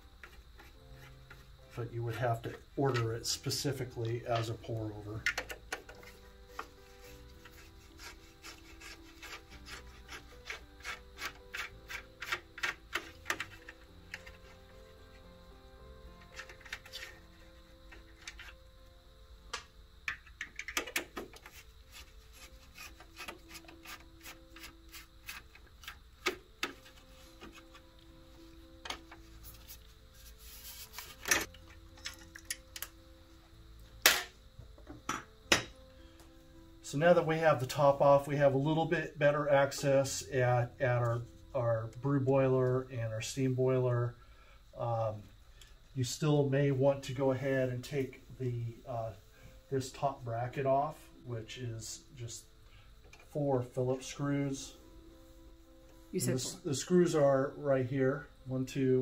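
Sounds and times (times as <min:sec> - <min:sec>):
faint background music: 0:00.0 - 0:59.0.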